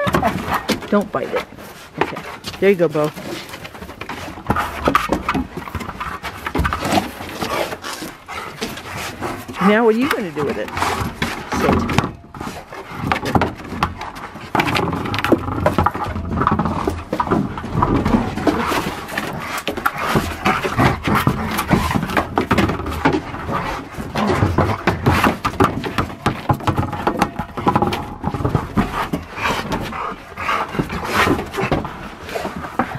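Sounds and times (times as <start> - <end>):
dog panting: 0.1 - 11.8, 16.6 - 32.9.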